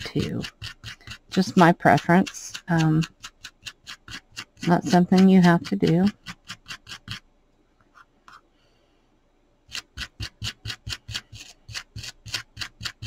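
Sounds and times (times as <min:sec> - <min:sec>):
wire brush scrubbing fabric: 0:00.0 - 0:07.2, 0:09.7 - 0:13.0.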